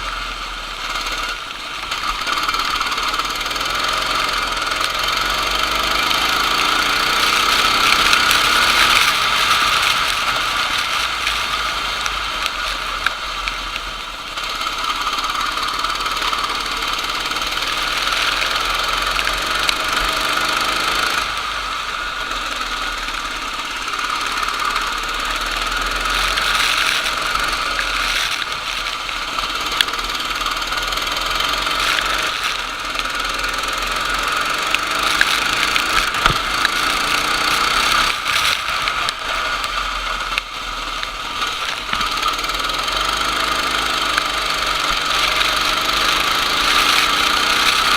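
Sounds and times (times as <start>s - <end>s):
racing kart engine accelerating: 0.0s - 47.9s.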